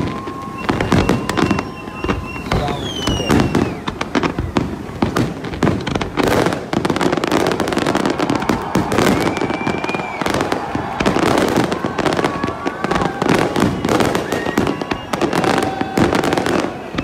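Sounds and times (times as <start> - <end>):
fireworks bangs and crackles: 0.0 - 17.0
high firework whistle: 0.0 - 17.0.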